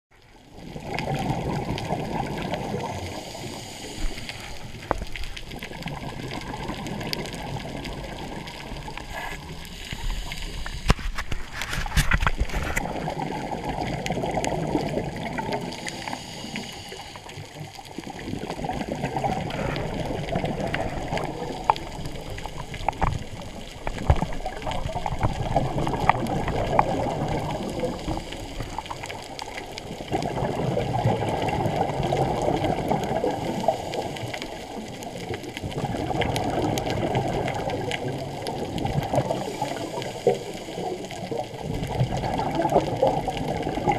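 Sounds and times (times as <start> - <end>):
underwater regulator bubbles: 0.4 - 43.9.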